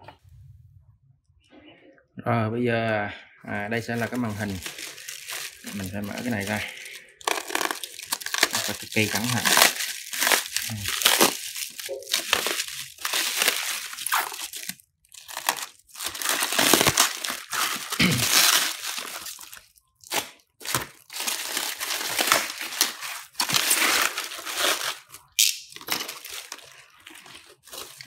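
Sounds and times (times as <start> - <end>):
plastic wrap crinkling and rustling: 3.7 - 28.0.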